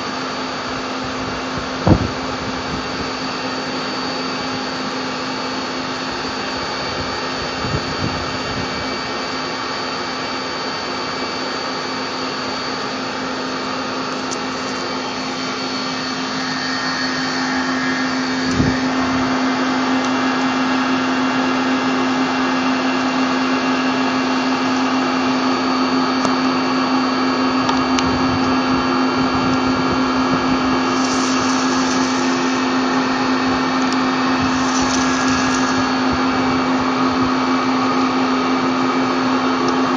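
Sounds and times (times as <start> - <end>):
lathe machine hum with whine: 0.0 - 39.9.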